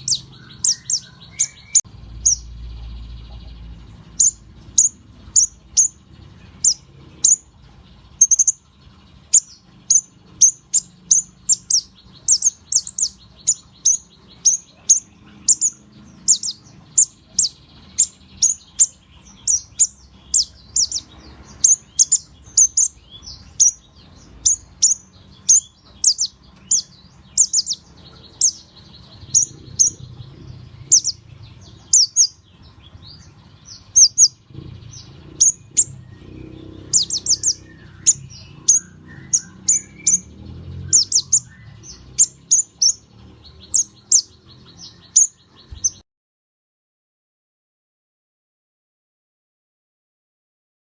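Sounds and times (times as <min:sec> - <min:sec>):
songbird chirping: 0:00.0 - 0:46.0.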